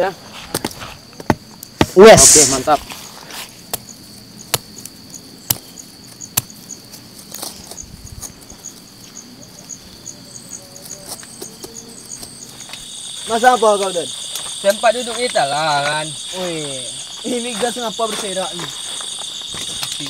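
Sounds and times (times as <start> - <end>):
cricket chirps: 0.0 - 20.0
high-pitched insect drone: 2.0 - 20.0.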